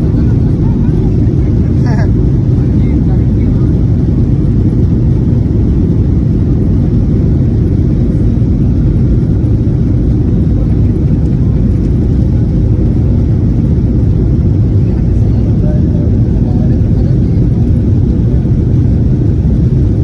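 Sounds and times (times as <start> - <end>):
jet engines and airflow rumble: 0.0 - 20.0.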